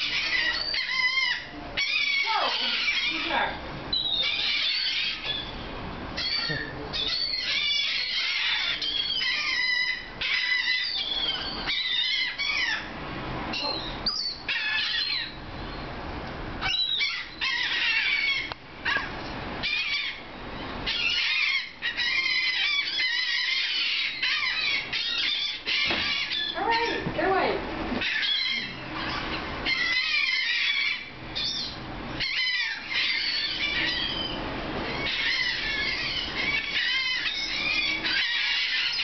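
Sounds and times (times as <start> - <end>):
gulls calling: 0.0 - 39.0.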